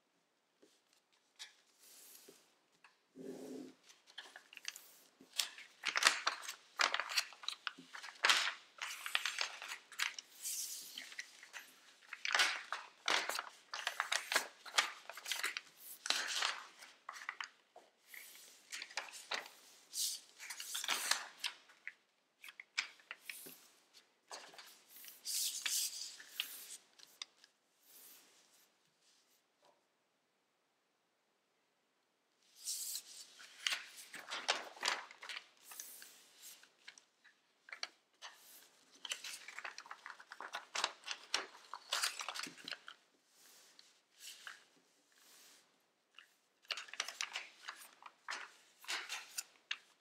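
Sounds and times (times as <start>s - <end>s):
paper rustling and crackling: 3.8s - 27.5s, 32.6s - 50.0s.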